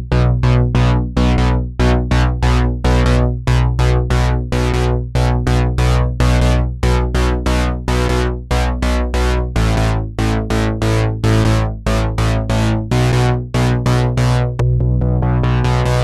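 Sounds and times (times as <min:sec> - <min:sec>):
rhythmic synthesizer chords: 0:00.0 - 0:16.0
sustained synth bass: 0:00.0 - 0:16.0.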